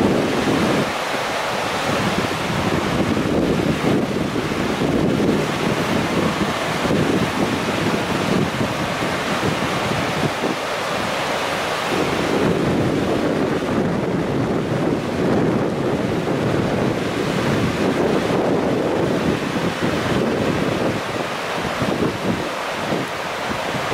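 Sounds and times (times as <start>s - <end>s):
flooded river rushing: 0.0s - 23.9s
wind buffeting microphone: 0.0s - 23.9s.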